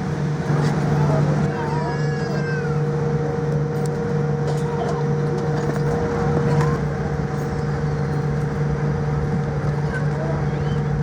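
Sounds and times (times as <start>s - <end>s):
aircraft cabin hum: 0.0s - 11.0s
faint passenger voices: 0.0s - 11.0s.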